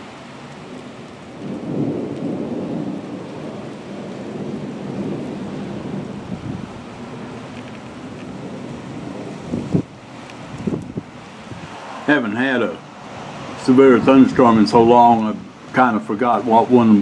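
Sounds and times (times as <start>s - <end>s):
thunderstorm rumble: 0.0s - 17.0s.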